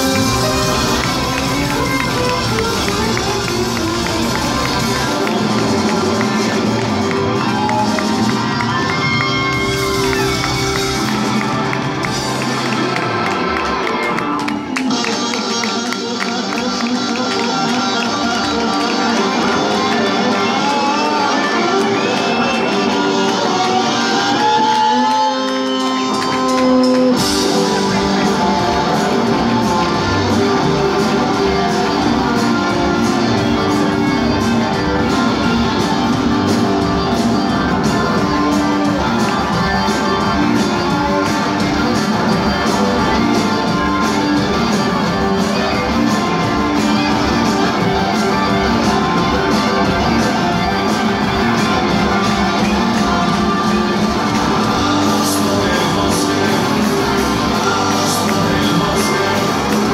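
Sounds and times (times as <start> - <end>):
drums: 0.0 - 59.9
electric guitars: 0.0 - 59.9
live rock band playing: 0.0 - 59.9.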